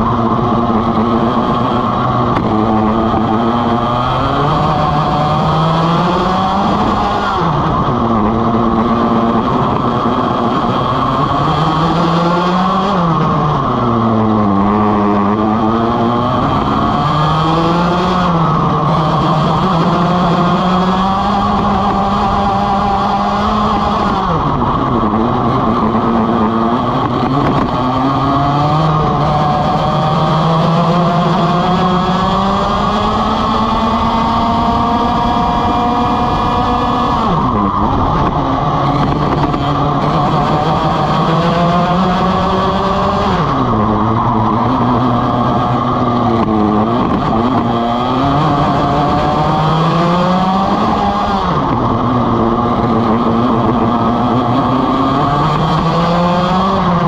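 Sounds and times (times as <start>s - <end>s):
kart engine racing: 0.0s - 57.0s.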